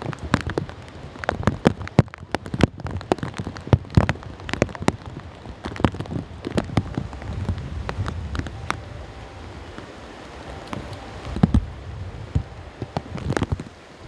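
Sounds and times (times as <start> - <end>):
low steady rain rumble: 0.0 - 14.0
raindrops tapping near microphone: 0.0 - 14.0.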